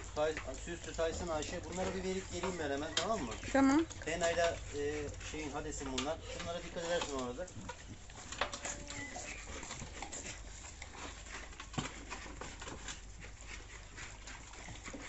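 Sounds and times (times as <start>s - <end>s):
puppy lapping and chewing: 0.0s - 15.0s.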